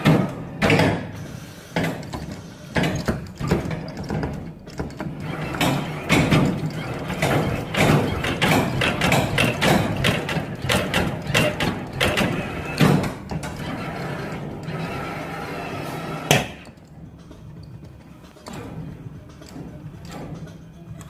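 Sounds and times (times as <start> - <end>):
claw machine mechanism clatter: 0.0 - 21.0
steady low hum: 0.0 - 21.0.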